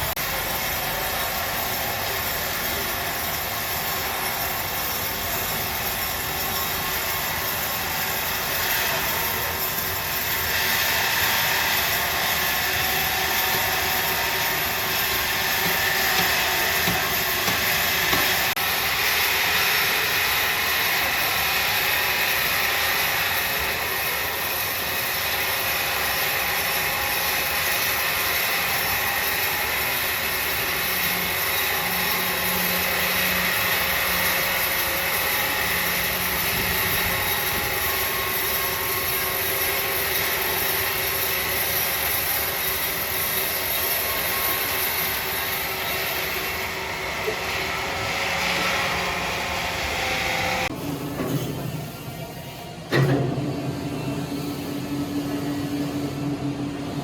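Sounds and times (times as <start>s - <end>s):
sawmill saw running: 0.0s - 57.0s
saw blade cutting log: 1.2s - 50.7s.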